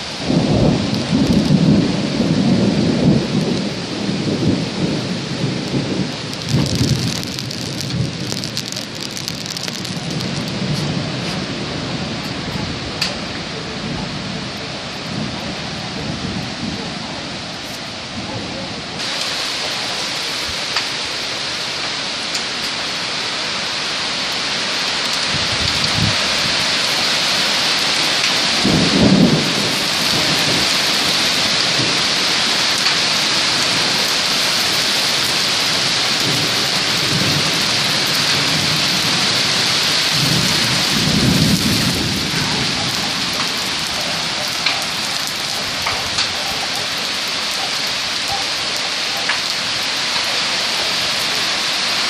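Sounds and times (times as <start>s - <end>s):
thunder rumbles: 0.0s - 20.7s, 25.0s - 51.4s
heavy rain pouring on gravel: 0.0s - 52.0s.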